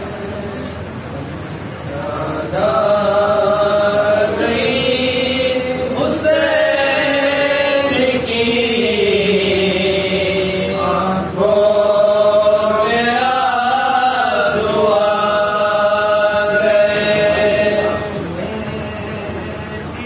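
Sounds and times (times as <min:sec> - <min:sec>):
men chanting: 0:01.9 - 0:20.0.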